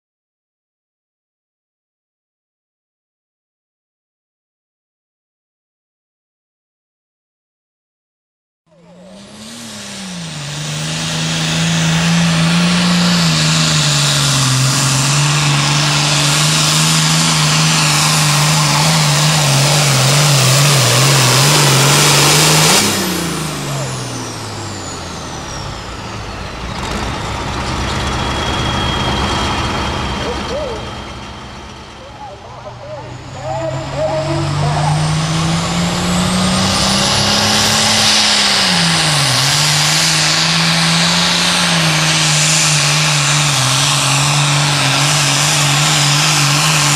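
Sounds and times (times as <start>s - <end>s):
tractor diesel engine under load: 8.7s - 46.9s.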